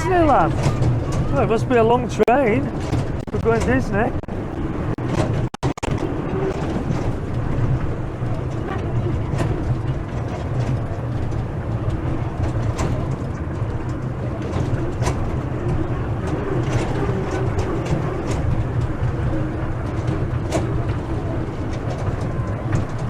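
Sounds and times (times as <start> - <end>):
sharp clacks and rattles: 0.0 - 23.0
small train ride rumbling: 0.0 - 23.0.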